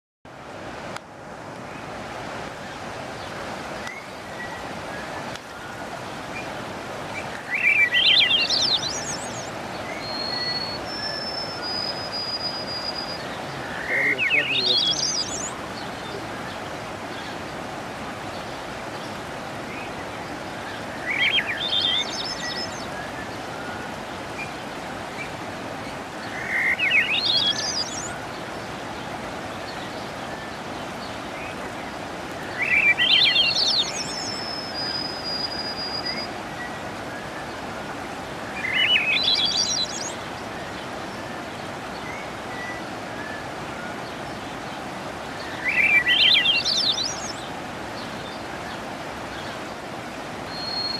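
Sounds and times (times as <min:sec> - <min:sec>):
waterfall rushing: 0:00.3 - 0:50.9
songbird singing: 0:01.6 - 0:50.9.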